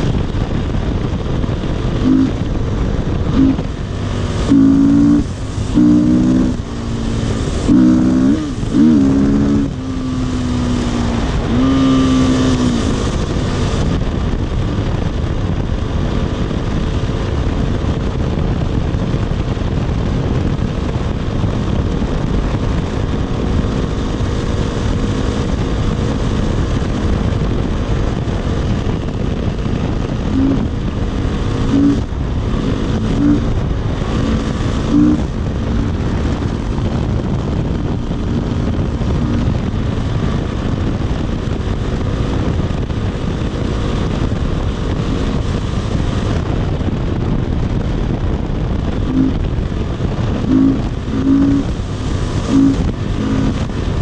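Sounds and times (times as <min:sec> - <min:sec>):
dirt bike engine running: 0:00.0 - 0:54.0
wind rush on microphone: 0:00.0 - 0:54.0.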